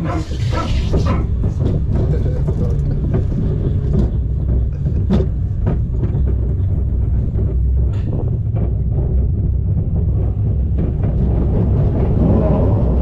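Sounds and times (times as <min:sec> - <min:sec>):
roller coaster low rumble: 0:00.0 - 0:13.0.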